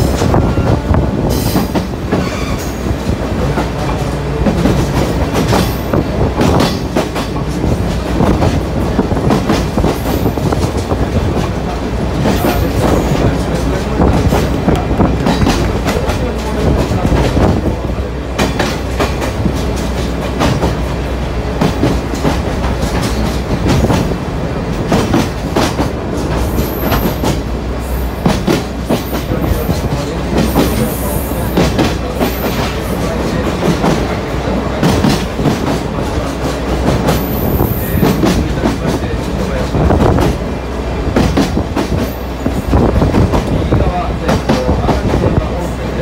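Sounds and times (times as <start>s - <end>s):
clickety-clack over rail joints: 0.0s - 46.0s
rumble of wheels on rail: 0.0s - 46.0s.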